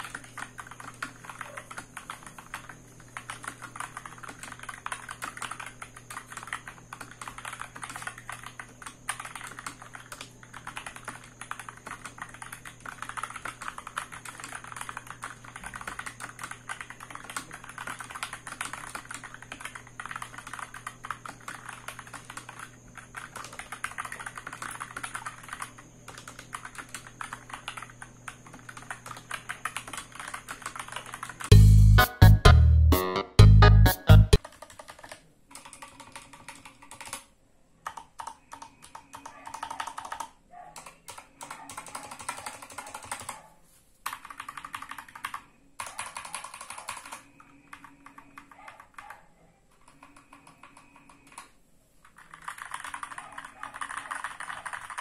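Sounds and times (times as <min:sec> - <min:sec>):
mechanical keyboard typing: 0:00.0 - 0:31.5, 0:33.9 - 0:43.4, 0:44.0 - 0:55.0.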